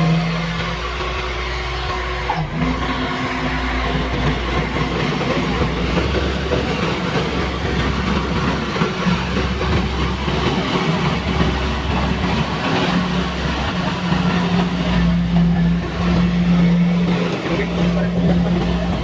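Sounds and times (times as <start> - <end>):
combine harvester engine drone: 0.0 - 19.0.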